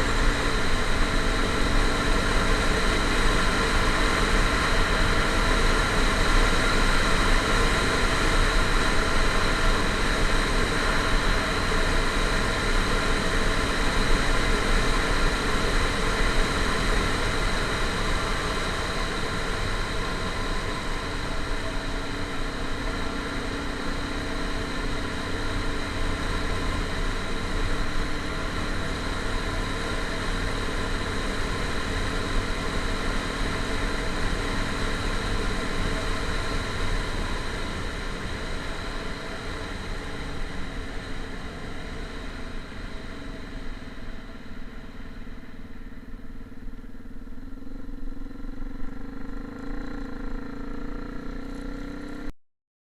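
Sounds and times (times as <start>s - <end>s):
vehicle engine running: 0.0s - 52.3s.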